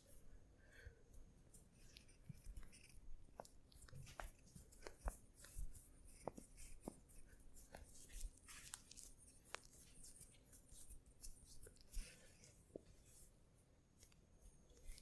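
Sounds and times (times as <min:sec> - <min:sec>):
soft rustles: 0:00.0 - 0:15.0
hands rubbing skin and hair: 0:01.4 - 0:14.2.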